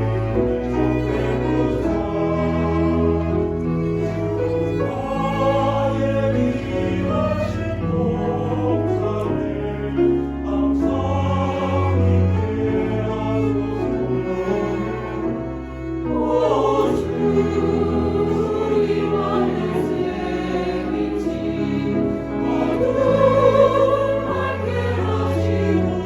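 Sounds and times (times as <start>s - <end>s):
church choir singing: 0.0s - 26.0s
low accompaniment: 0.0s - 26.0s.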